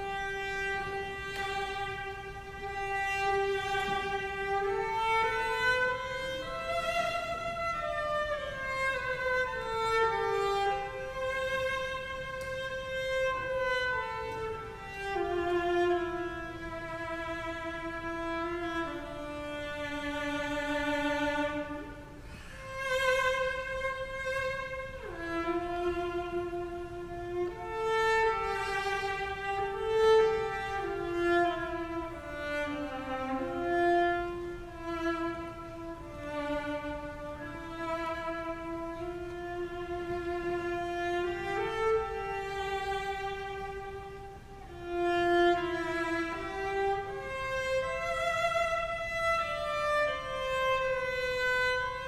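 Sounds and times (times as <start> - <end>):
bowed cello melody: 0.0 - 52.0.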